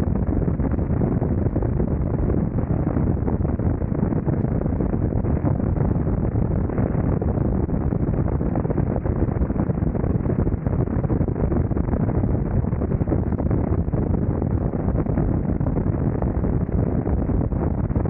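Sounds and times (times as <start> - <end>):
wind rush over microphone: 0.0 - 18.0.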